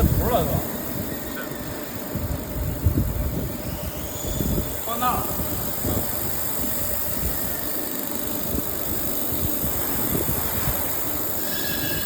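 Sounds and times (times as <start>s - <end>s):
welding machine hum with hiss: 0.0s - 12.0s.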